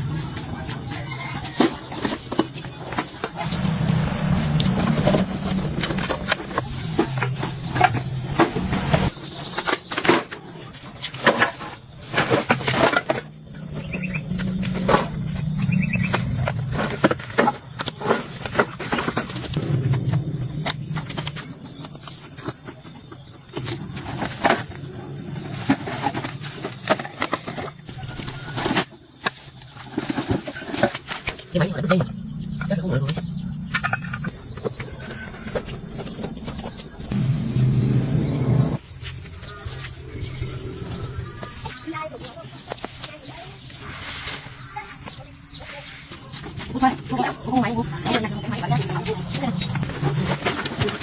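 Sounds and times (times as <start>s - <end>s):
insects chirring: 0.0s - 51.0s.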